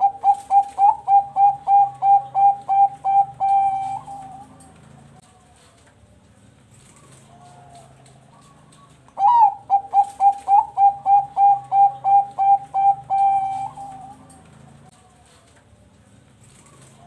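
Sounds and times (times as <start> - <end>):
dove cooing: 0.0 - 5.7, 6.8 - 15.0.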